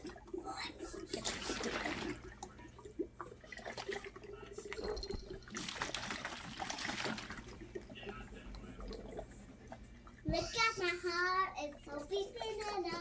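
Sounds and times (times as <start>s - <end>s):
small clicks and drips: 0.0s - 13.0s
water swirling and gurgling: 0.0s - 13.0s.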